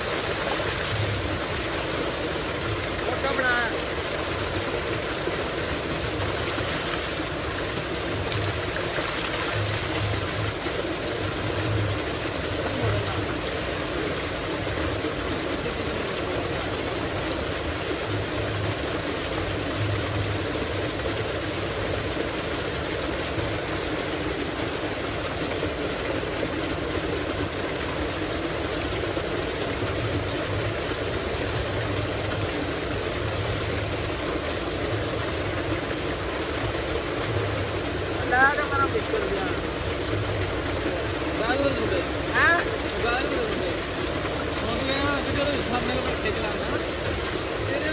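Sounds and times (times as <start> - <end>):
water gushing into a tank: 0.0 - 47.9.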